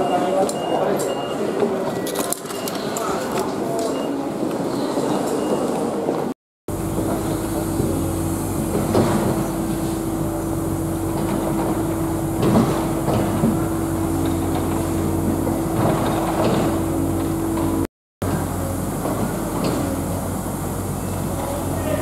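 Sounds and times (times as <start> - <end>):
steady street hum: 0.0 - 22.0.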